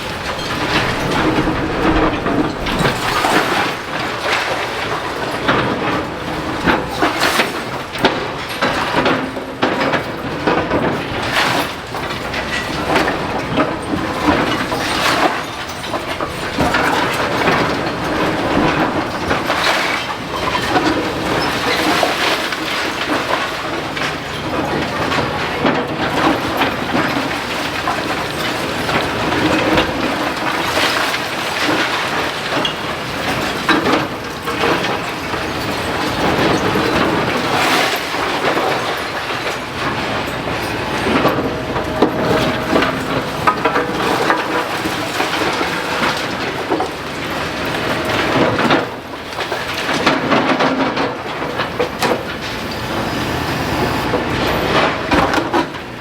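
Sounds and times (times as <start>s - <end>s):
excavator demolishing a building: 0.0s - 56.0s.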